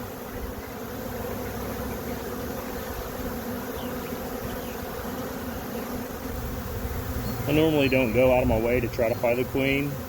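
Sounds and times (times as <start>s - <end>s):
bee swarm buzzing: 0.0s - 10.0s.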